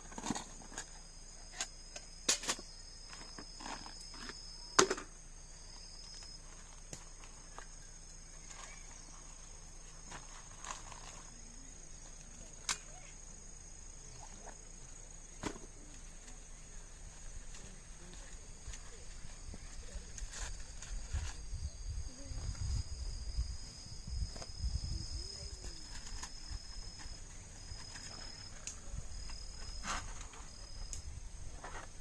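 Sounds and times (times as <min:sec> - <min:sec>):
insects singing: 0:00.0 - 0:32.0.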